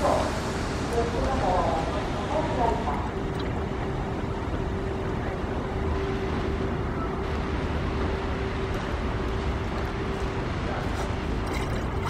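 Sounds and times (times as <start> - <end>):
boat engine rumbling: 0.0 - 12.0
water wash: 0.0 - 12.0.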